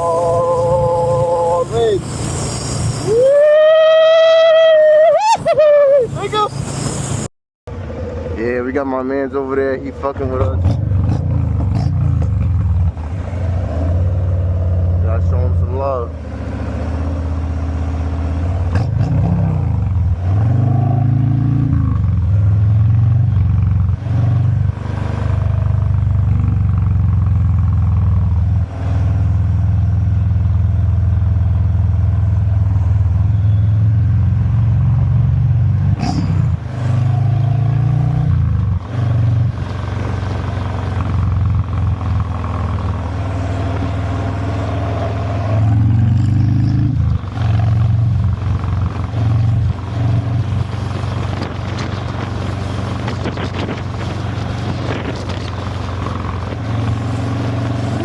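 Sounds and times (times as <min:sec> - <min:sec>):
motorcycle engine revving: 0:07.7 - 0:58.0.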